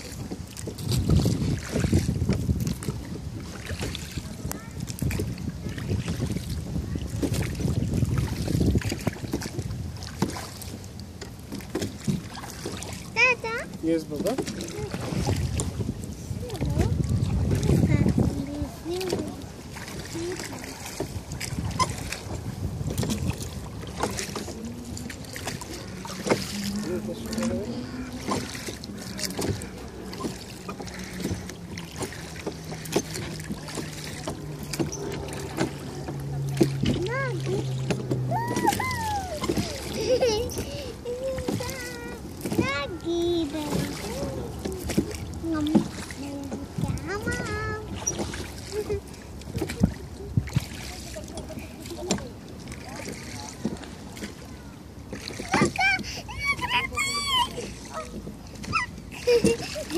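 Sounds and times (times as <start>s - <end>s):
oars pulling through water: 0.0s - 59.9s
water swishing past hull: 0.0s - 59.9s
wind buffeting microphone: 0.0s - 59.9s.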